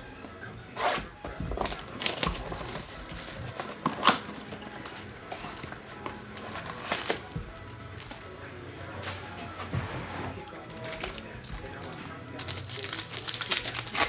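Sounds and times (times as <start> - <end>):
card packaging rustling and crinkling: 0.0 - 14.0.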